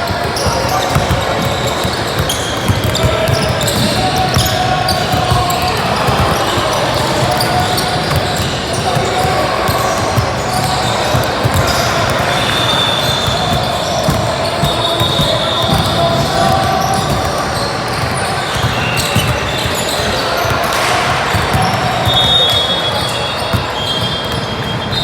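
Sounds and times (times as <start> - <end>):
indistinct chatter: 0.0 - 25.0
shoe squeaks: 0.0 - 25.0
basketball bouncing on hardwood: 0.1 - 22.7.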